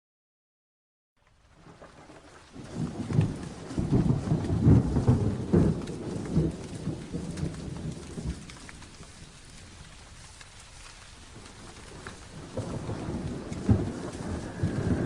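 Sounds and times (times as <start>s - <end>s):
steady rain: 1.2s - 15.0s
thunder rumbling: 1.6s - 15.0s.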